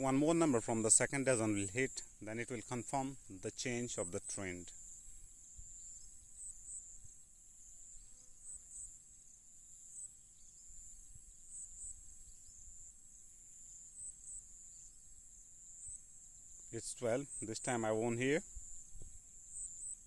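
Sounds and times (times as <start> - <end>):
steady high-pitched hiss: 0.0 - 20.0.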